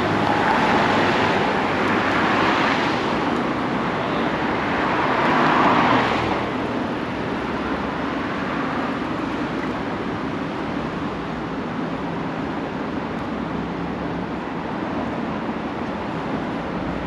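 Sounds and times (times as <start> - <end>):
road traffic rumble and hiss: 0.0 - 17.0.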